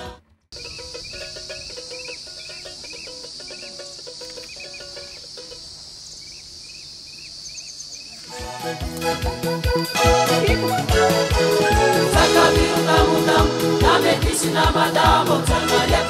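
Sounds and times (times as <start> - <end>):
high insect drone: 0.6 - 16.0.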